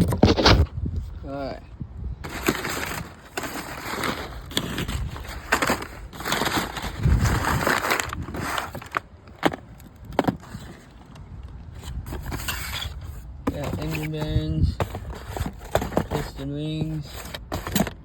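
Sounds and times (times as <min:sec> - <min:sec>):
packaging rustling and crinkling: 0:02.2 - 0:11.1, 0:11.7 - 0:18.0.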